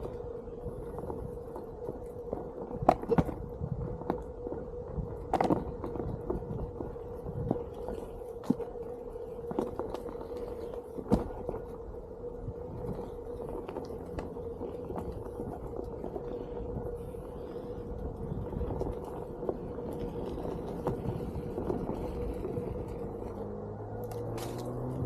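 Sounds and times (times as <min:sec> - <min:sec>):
low rumble: 0:00.0 - 0:25.0
lower whine: 0:00.0 - 0:25.0
tyre clicks on trail: 0:00.0 - 0:25.0.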